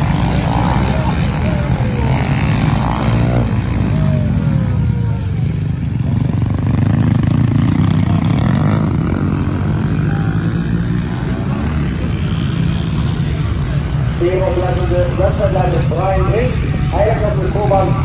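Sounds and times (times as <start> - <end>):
distant motorbikes droning: 0.0 - 18.0
small motorbike engines revving past: 0.0 - 18.0.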